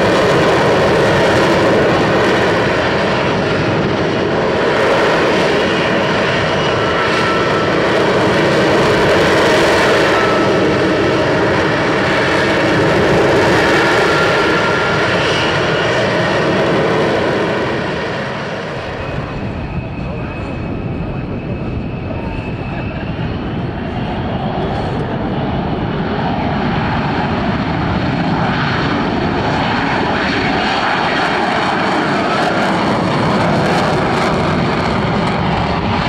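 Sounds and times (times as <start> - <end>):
jet engine running: 0.0 - 36.0.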